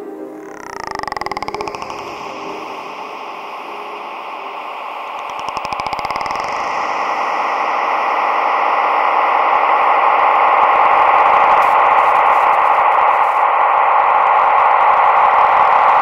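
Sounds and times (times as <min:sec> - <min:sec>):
hiss-like filtered synth noise: 0:00.0 - 0:16.0.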